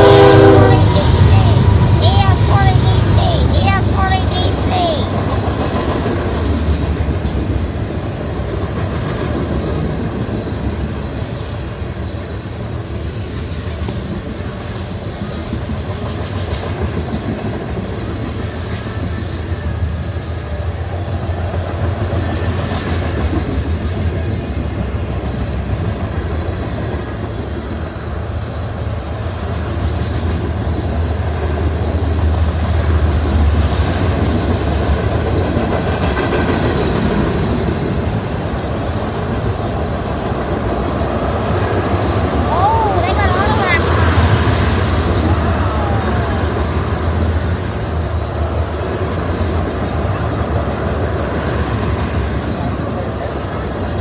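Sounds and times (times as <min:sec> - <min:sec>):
steel wheels on rail: 0:00.0 - 0:54.0.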